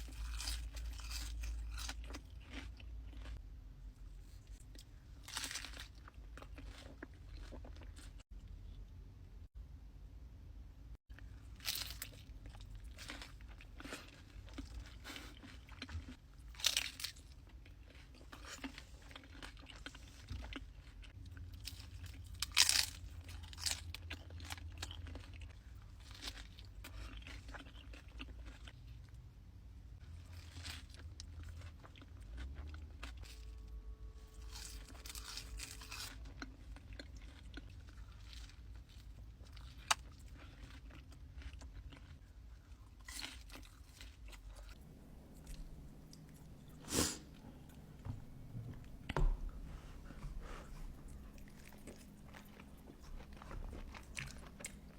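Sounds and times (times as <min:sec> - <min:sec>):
chewing: 0:00.0 - 0:03.4, 0:11.6 - 0:28.8, 0:30.1 - 0:54.9
crunchy food crunching: 0:00.0 - 0:03.4, 0:04.3 - 0:08.2, 0:11.2 - 0:29.2, 0:30.0 - 0:48.1, 0:50.5 - 0:54.9.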